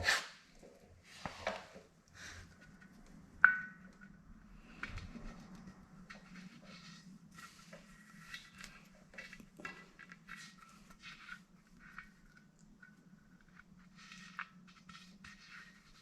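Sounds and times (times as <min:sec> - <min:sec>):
pipe fittings scraping and clicking: 0:02.6 - 0:16.0.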